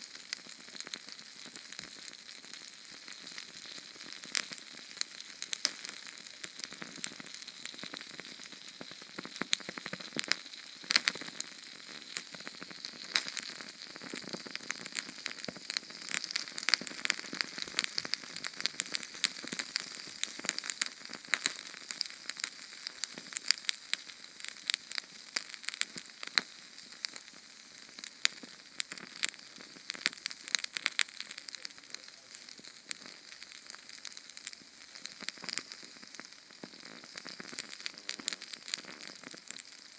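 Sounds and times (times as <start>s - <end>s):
flame crackling and popping: 0.0s - 39.9s
small flame hissing: 0.0s - 39.9s.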